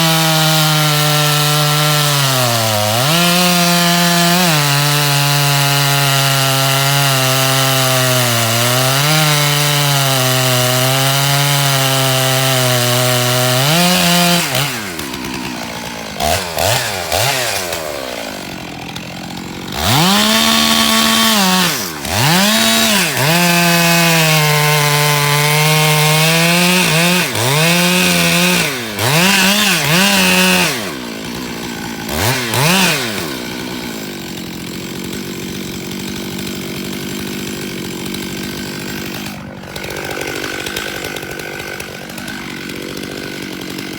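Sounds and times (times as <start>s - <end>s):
chainsaw cutting wood: 0.0s - 43.9s
chainsaw revving and idling: 0.0s - 43.9s.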